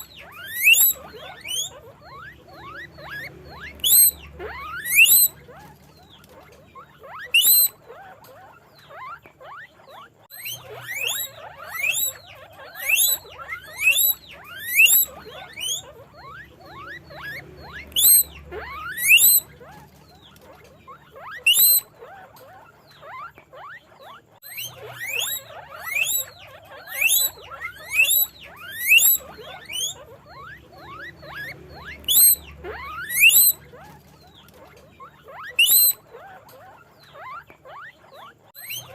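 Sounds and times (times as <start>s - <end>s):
guinea pig wheeking: 0.0s - 38.9s.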